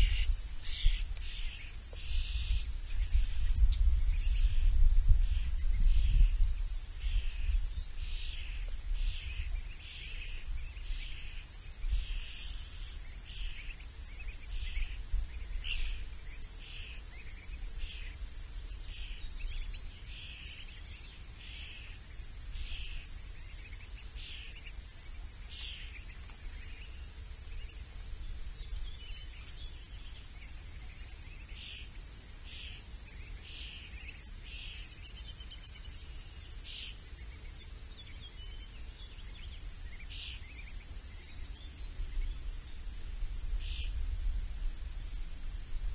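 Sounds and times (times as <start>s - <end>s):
steady low rumble: 0.0s - 35.2s, 36.0s - 45.9s
small bird calling: 0.0s - 42.8s.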